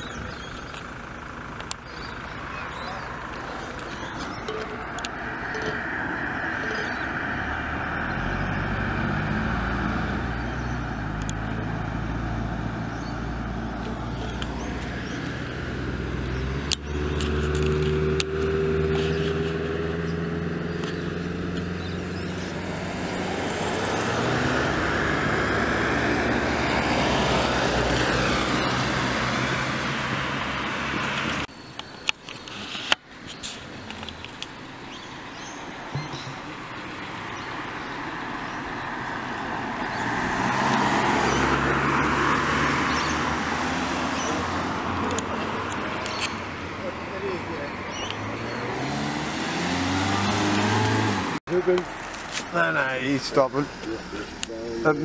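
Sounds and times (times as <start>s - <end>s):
cars passing by: 0.0s - 55.0s.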